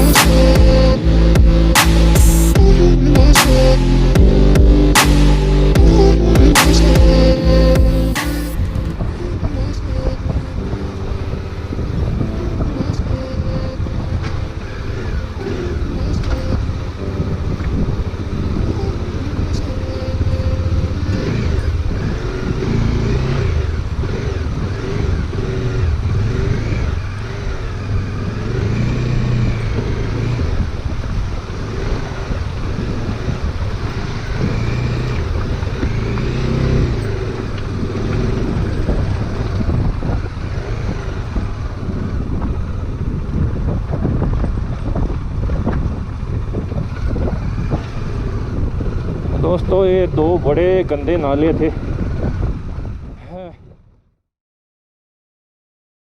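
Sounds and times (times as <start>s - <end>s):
motorcycle engine rumbling: 0.0s - 53.9s.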